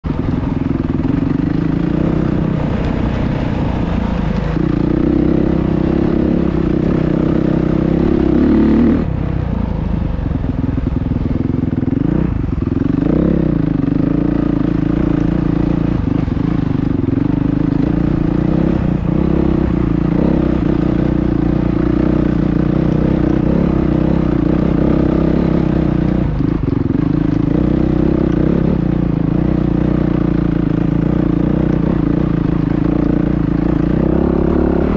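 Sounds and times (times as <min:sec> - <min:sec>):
motorbike engine revving: 0:00.0 - 0:09.4, 0:10.1 - 0:34.9.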